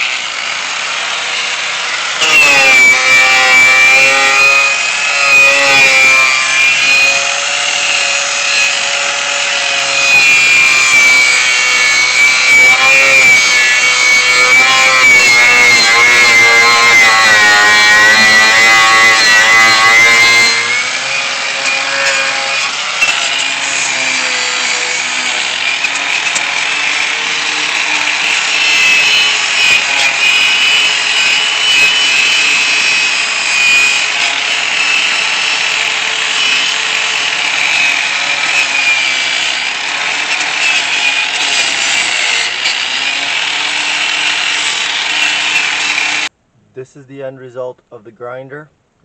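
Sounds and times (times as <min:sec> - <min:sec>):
angle grinder grinding metal: 0:00.0 - 0:46.3.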